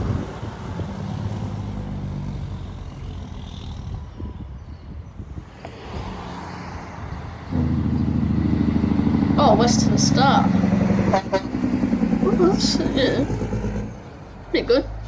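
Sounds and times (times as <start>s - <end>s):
diesel truck engine passing: 0.0s - 4.5s, 5.2s - 15.0s.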